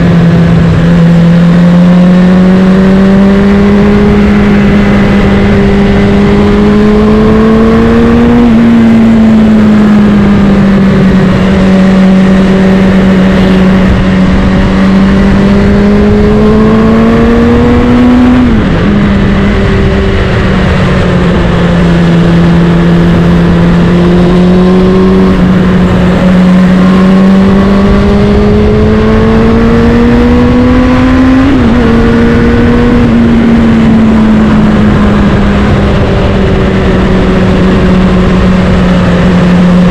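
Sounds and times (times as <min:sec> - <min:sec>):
motorcycle engine revving: 0:00.0 - 0:39.9
wind rush: 0:02.2 - 0:39.9.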